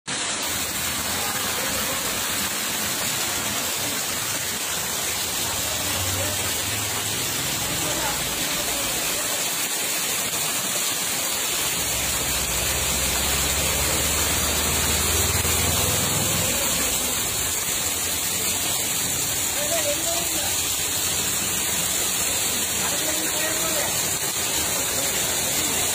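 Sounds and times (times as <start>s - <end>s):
water rushing along a drain: 0.1s - 25.9s.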